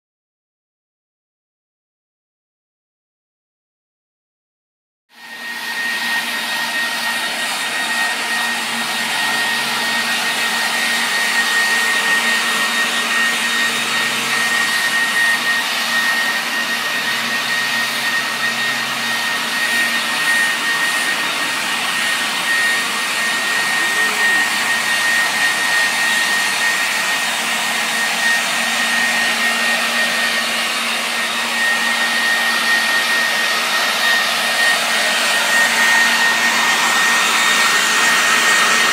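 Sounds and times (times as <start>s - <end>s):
electric leaf blower whining: 5.1s - 38.9s.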